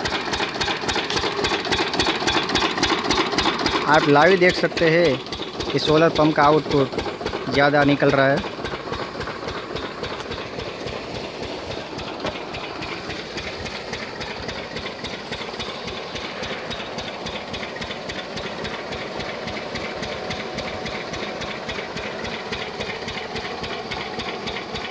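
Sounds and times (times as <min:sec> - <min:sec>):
diesel water pump engine knocking: 0:00.0 - 0:24.9.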